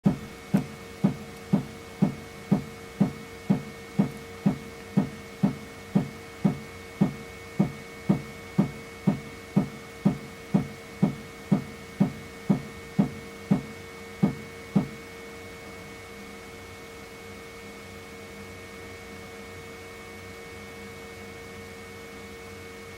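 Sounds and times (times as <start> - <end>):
printer fans and motors humming: 0.0 - 22.9.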